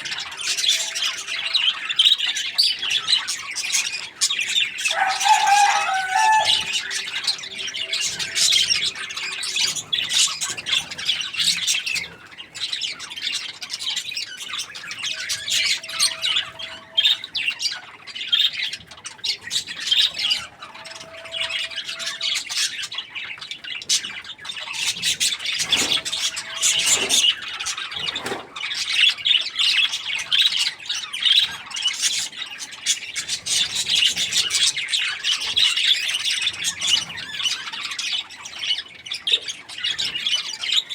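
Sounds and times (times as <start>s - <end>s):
budgies chirping and chattering: 0.0s - 40.9s.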